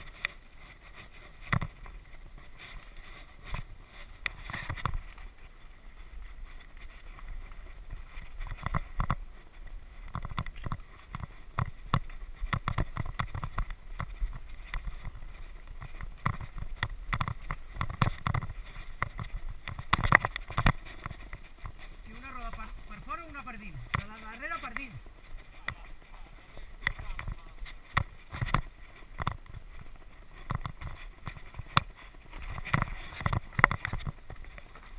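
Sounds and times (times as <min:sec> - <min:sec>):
tyre and wind rumble: 0:00.0 - 0:34.9.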